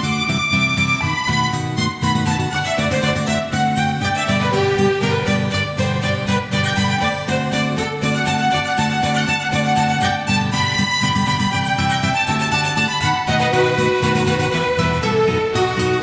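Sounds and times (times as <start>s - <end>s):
held strings: 0.0s - 16.0s
plucked string accompaniment: 0.0s - 16.0s
violin melody: 0.0s - 16.0s.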